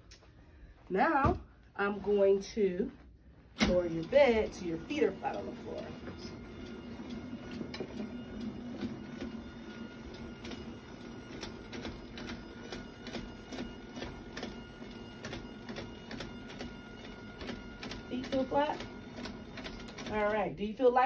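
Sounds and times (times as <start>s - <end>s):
bed motor humming and ticking: 3.6s - 20.5s.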